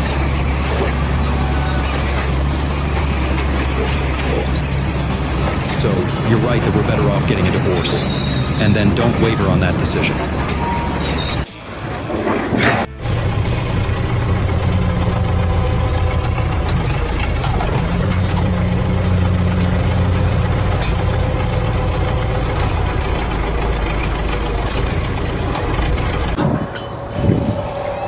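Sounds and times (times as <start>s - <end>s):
heavy engine droning: 0.0s - 28.0s.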